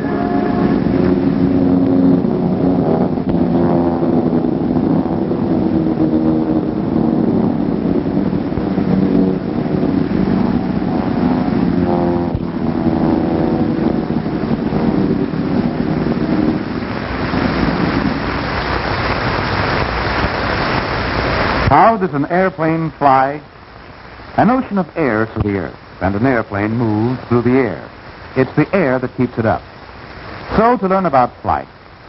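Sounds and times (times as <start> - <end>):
propeller aircraft engines droning: 0.0 - 32.0.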